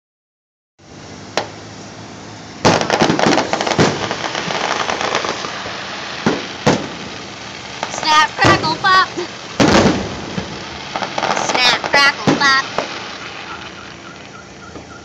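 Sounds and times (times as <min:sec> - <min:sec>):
firework crackling: 0:00.8 - 0:15.0
firework bangs: 0:01.2 - 0:15.0.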